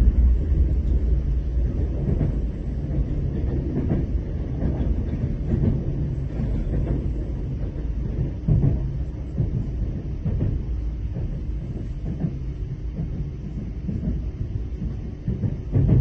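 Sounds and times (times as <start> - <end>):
train knocks: 0.0 - 16.0
train wheels rumbling: 0.0 - 16.0.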